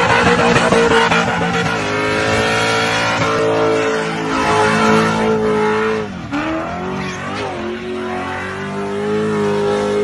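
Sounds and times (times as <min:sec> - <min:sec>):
car engine revving high: 0:00.0 - 0:10.0
tyres spinning and squealing: 0:00.0 - 0:10.0.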